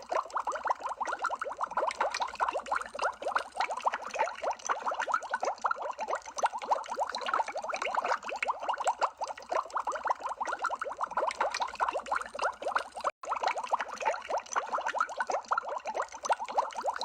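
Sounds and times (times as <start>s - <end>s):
stream of underwater bubbles: 0.0s - 17.0s.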